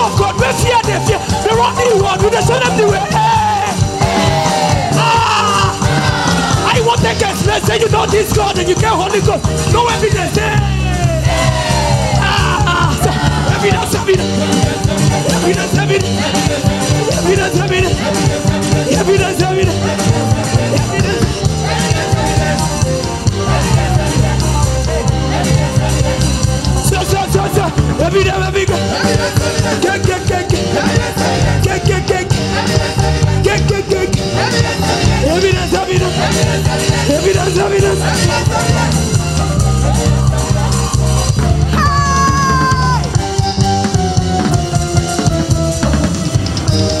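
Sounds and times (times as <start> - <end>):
people singing: 0.0 - 9.2, 9.8 - 43.1
drums: 0.0 - 47.0
low bass line: 0.0 - 47.0
praise band music: 0.0 - 47.0.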